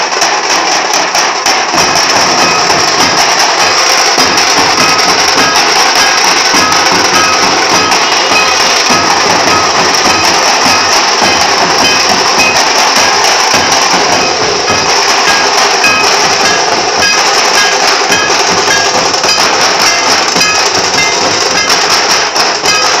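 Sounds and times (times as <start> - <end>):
crowd noise: 0.0 - 23.0
dhol drums beating: 0.0 - 23.0.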